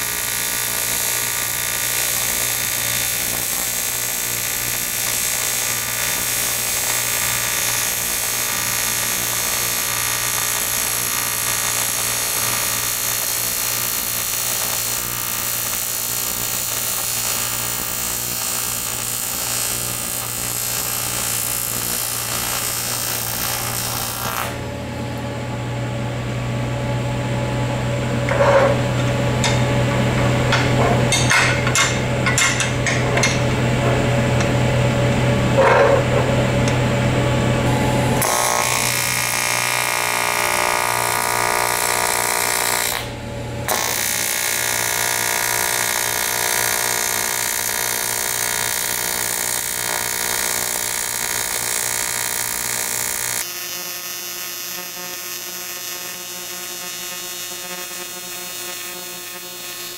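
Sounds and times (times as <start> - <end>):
welding arc buzzing: 0.0 - 25.3, 26.8 - 59.9.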